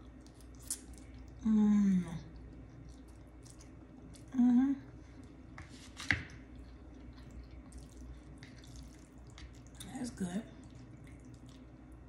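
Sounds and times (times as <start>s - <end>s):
wet chewing: 0.0s - 1.4s, 2.3s - 4.4s, 5.1s - 12.0s.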